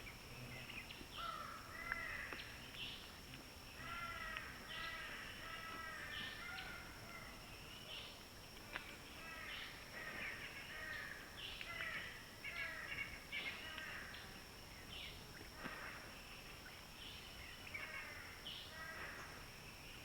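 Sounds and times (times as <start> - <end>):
faint high-pitched hum: 0.0 - 20.0.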